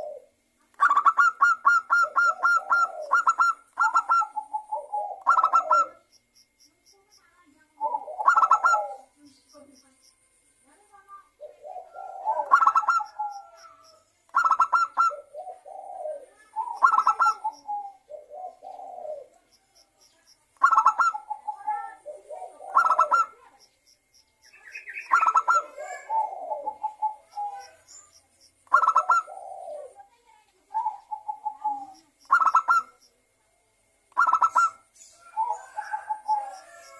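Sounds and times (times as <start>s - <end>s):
dove cooing: 0.0s - 6.1s, 7.7s - 9.2s, 11.3s - 23.8s, 24.8s - 33.3s, 34.1s - 36.9s.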